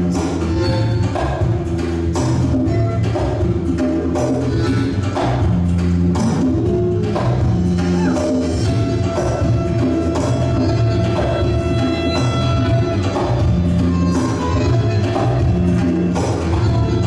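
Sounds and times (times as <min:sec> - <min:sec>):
ballroom dance music: 0:00.0 - 0:17.0.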